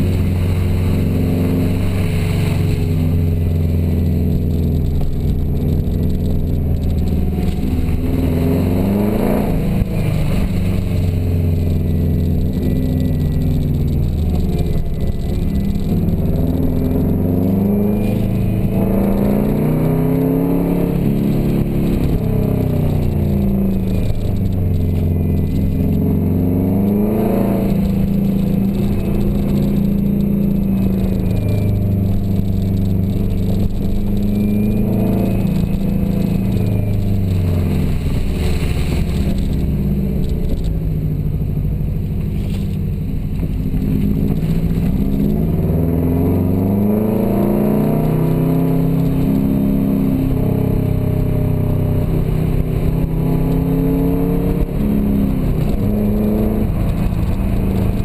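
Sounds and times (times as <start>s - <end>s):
turbocharged car engine revving: 0.0s - 58.0s.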